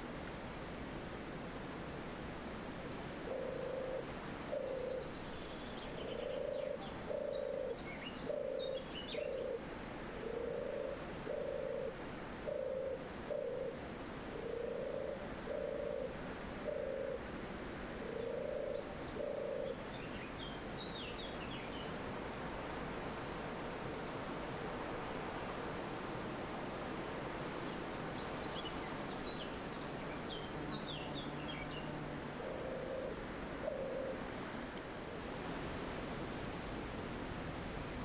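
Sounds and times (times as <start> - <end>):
forest wind: 0.0 - 38.0.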